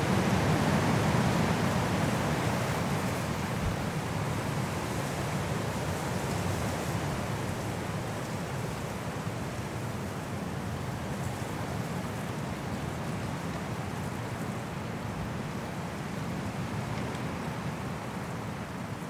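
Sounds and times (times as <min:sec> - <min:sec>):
high wind blowing through trees: 0:00.0 - 0:19.0.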